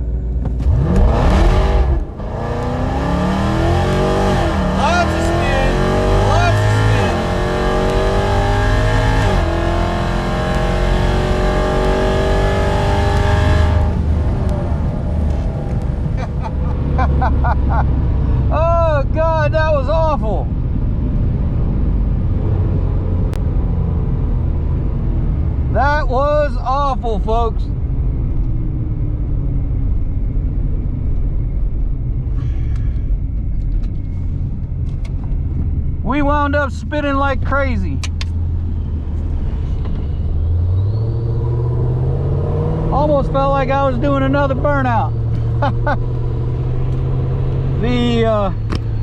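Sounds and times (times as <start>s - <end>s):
car engine at full throttle: 0.0s - 49.0s.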